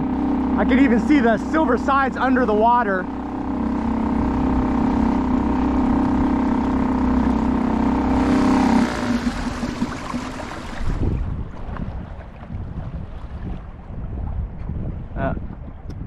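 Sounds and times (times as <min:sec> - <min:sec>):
boat motor running: 0:00.0 - 0:16.0
water noise: 0:00.0 - 0:16.0
wind: 0:00.0 - 0:16.0.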